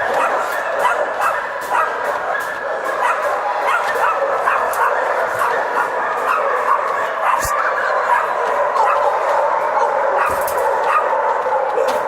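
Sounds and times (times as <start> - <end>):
many dogs barking and yelping: 0.0 - 12.0.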